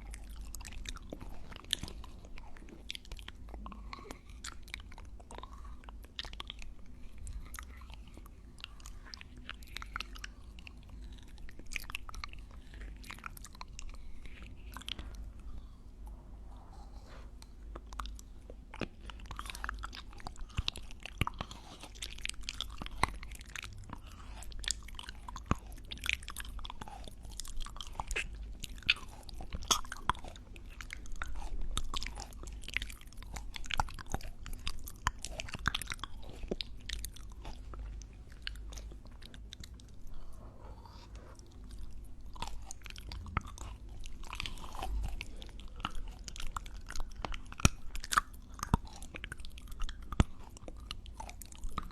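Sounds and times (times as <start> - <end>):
chewing and mouth sounds: 0.0 - 51.9.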